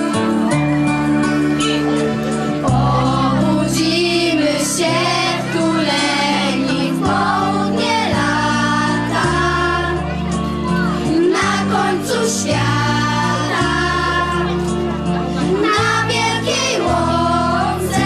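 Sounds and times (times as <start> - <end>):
instrumental accompaniment with bass: 0.0 - 18.0
girls singing together: 2.6 - 10.2, 11.0 - 18.0.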